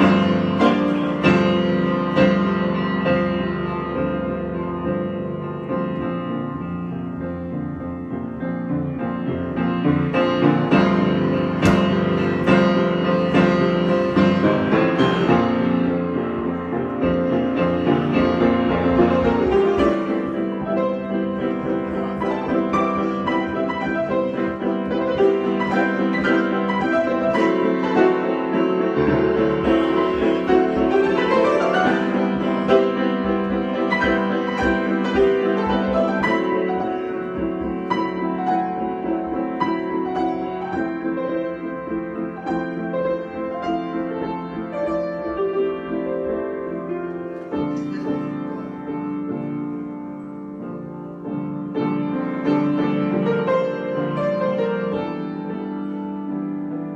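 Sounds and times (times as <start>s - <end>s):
piano improvisation: 0.0s - 56.9s.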